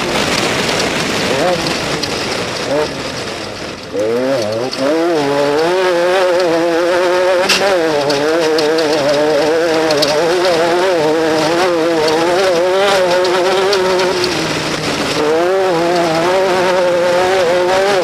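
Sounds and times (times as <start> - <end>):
race vehicle engine revving: 0.0 - 18.0.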